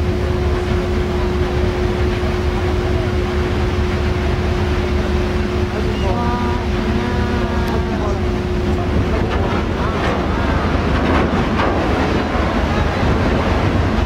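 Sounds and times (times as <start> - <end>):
constant hum: 0.0 - 14.0
loud low rumble: 0.0 - 14.0.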